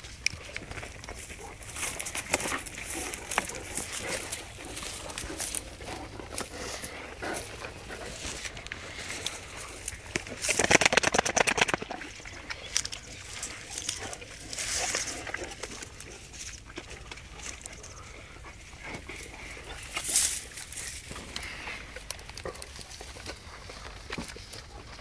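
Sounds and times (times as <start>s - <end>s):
dogs chewing grass: 0.0s - 25.0s
grass rustling: 0.0s - 25.0s.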